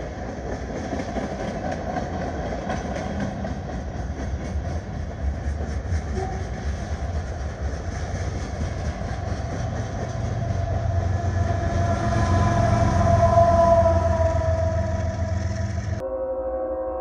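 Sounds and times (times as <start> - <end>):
freight cars rumbling: 0.0 - 16.0
wheels clacking over rail joints: 0.0 - 16.0
diesel locomotive engine whine: 0.0 - 17.0.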